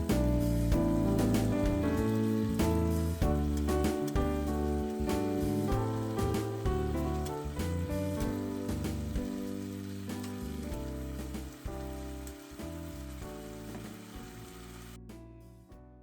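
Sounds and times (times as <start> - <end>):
meat and vegetables sizzling in pan: 0.0 - 15.0
slow background music: 0.0 - 16.0.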